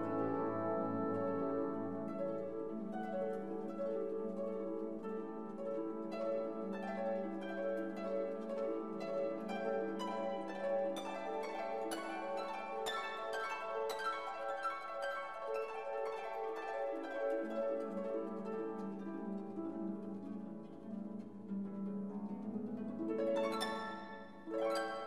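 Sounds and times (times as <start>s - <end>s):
harp-like plucked string music: 0.0s - 25.0s.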